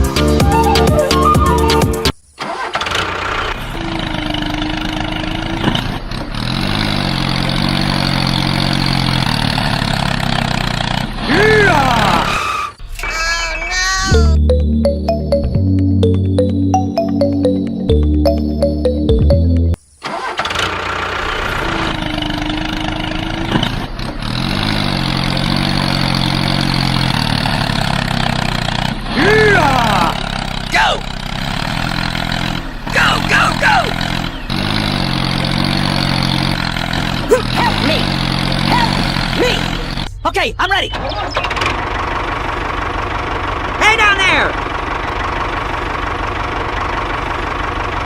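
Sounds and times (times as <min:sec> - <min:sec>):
small engine whining: 0:00.0 - 0:12.9, 0:20.0 - 0:40.3, 0:40.9 - 0:48.0.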